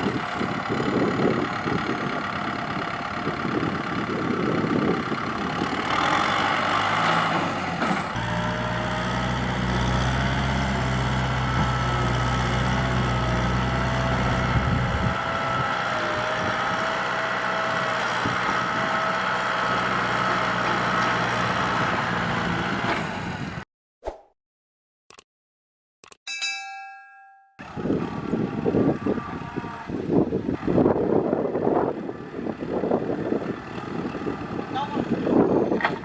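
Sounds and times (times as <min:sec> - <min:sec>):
tractor diesel engine running: 0:00.0 - 0:23.6, 0:27.6 - 0:35.8.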